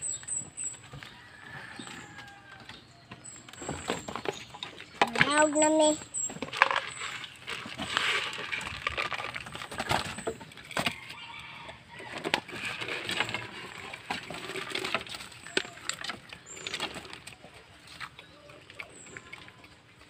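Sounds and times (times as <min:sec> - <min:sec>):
grain feed rattling and scraping: 0:00.0 - 0:20.0.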